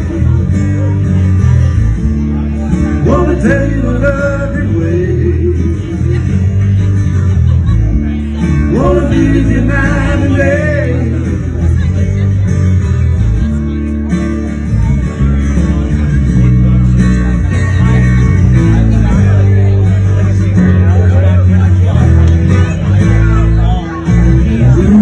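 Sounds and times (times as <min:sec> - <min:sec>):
guitar: 0:00.0 - 0:25.0
steady bass line: 0:00.0 - 0:25.0.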